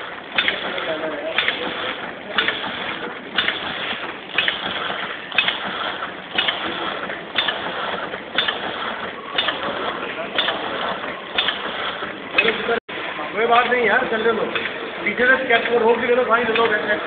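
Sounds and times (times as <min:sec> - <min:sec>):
packing machine clatter: 0:00.0 - 0:17.0
sharp machine clack: 0:00.0 - 0:17.0.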